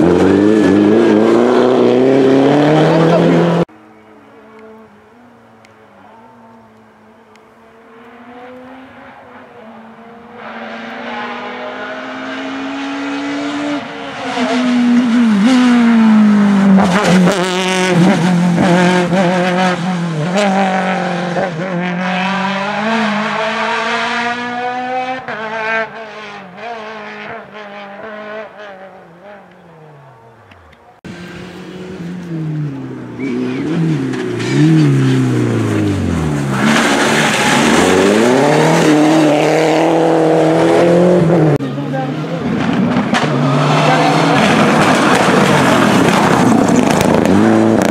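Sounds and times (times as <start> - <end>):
rally car engine revving: 0.0 - 47.9
second rally car revving: 0.0 - 47.9.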